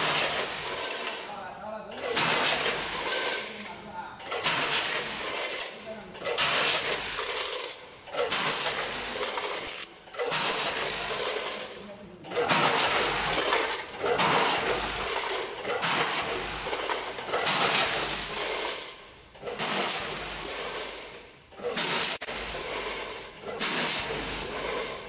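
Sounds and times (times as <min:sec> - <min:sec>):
ice clattering through metal hoppers: 0:00.0 - 0:25.0.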